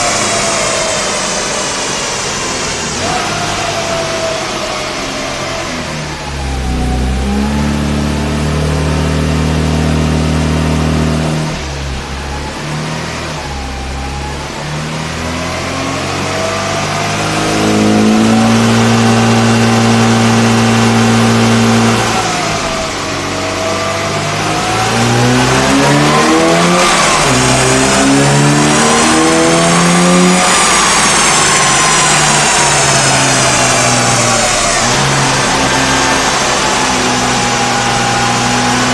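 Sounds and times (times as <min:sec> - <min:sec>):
car engine revving under load: 0:00.0 - 0:38.9.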